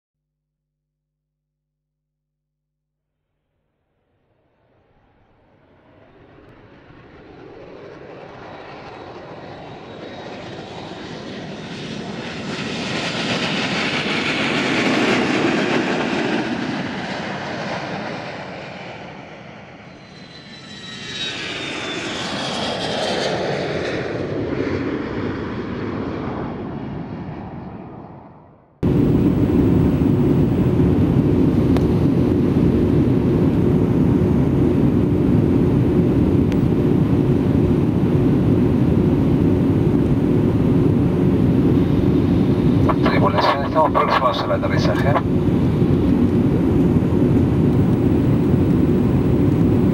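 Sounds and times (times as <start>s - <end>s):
airplane passing with falling whine: 3.2s - 49.9s
steady aircraft engine drone: 3.8s - 49.9s.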